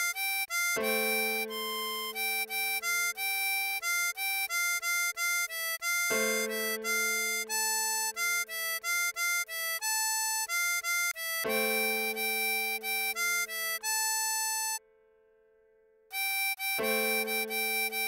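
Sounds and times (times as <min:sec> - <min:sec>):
harmonica melody: 0:00.0 - 0:14.8, 0:16.1 - 0:18.0.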